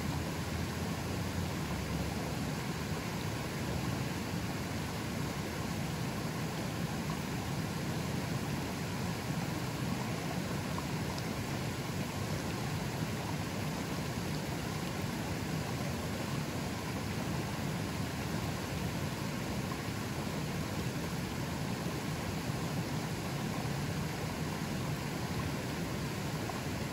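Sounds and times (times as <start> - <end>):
river water rushing: 0.0 - 26.9.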